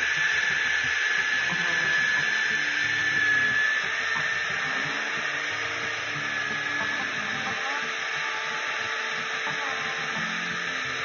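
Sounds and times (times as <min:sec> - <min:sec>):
power drill drilling steel: 0:00.0 - 0:11.0.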